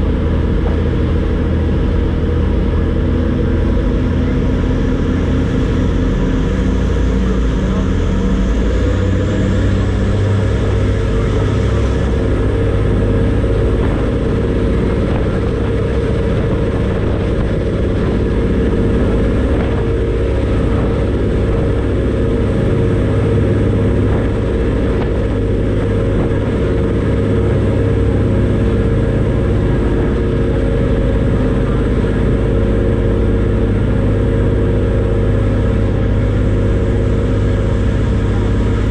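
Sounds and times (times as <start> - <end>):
ferry diesel engines droning: 0.0 - 38.9.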